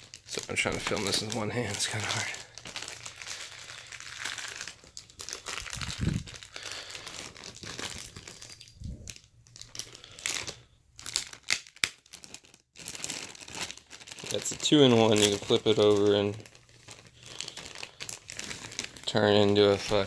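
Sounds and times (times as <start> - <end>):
packaging crinkling and rustling: 0.0 - 20.0.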